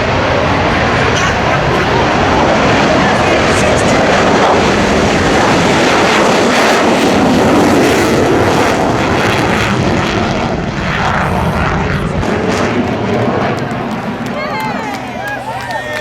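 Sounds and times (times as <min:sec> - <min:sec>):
jet engine roaring: 0:00.0 - 0:16.0.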